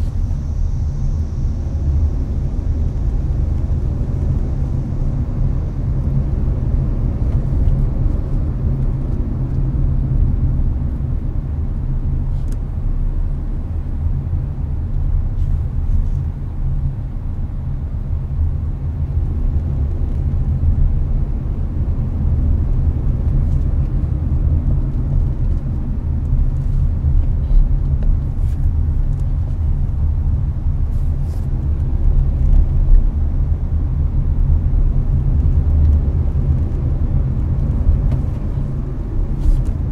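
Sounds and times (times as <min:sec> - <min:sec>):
car air conditioning blowing: 0:00.0 - 0:39.9
road and tyre rumble: 0:00.0 - 0:39.9.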